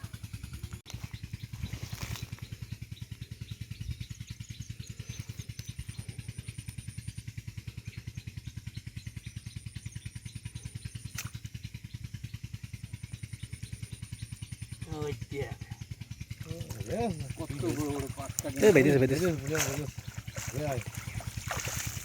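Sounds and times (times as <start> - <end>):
small engine chugging: 0.0 - 22.0.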